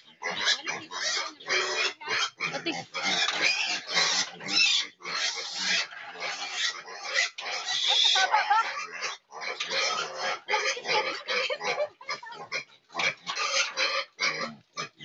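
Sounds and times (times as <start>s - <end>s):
piglets squealing and grunting: 0.0s - 15.0s.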